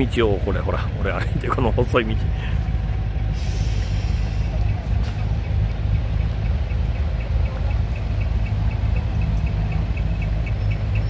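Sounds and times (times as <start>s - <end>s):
diesel trucks idling: 0.0s - 11.0s
faint high ticking: 0.1s - 11.0s.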